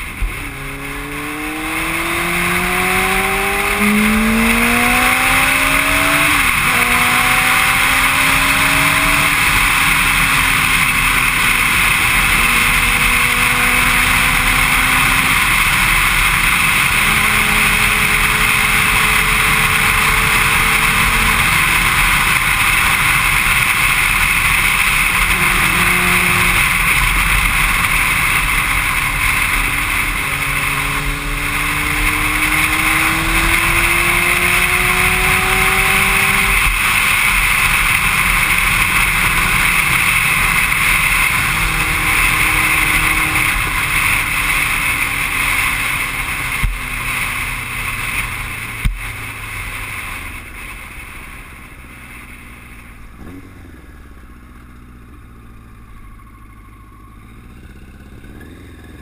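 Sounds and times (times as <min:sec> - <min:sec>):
wind rushing over microphone: 0:00.0 - 0:53.4
faint motorcycle engine: 0:00.0 - 0:59.0.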